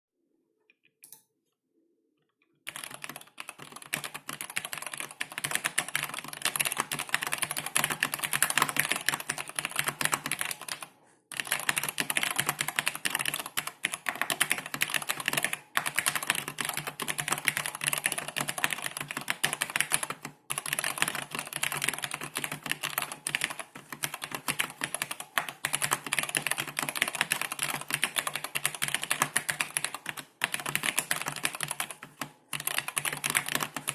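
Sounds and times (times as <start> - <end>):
mechanical keyboard typing: 2.7 - 33.9.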